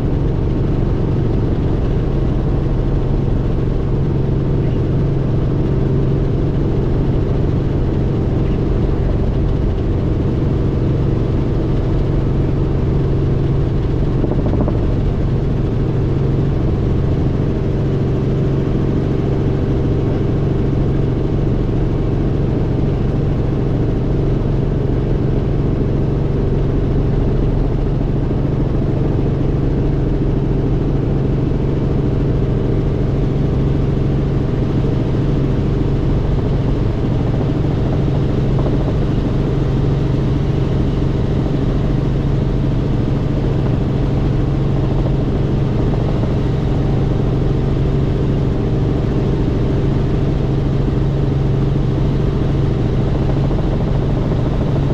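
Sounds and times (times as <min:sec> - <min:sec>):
helicopter drone: 0:00.0 - 0:54.9.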